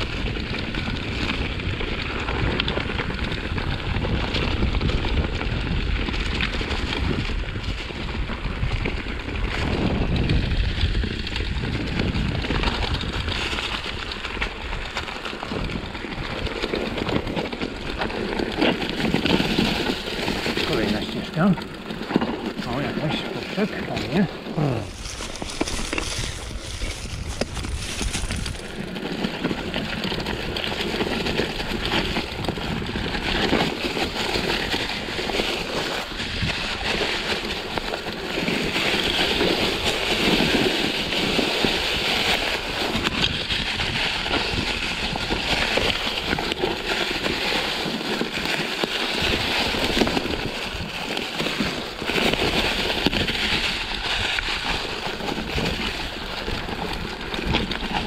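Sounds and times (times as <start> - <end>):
rattling along rough trail: 0.0 - 58.0
wind on microphone: 0.0 - 58.0.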